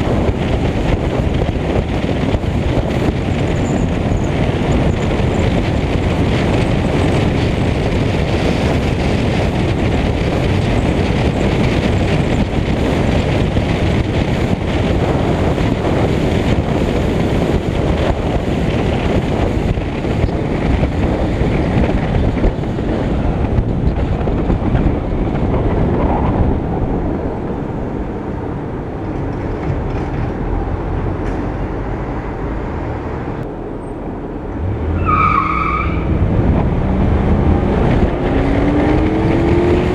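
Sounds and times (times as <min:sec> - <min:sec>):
road and tyre noise: 0:00.0 - 0:39.9
wind buffeting microphone: 0:00.0 - 0:39.9.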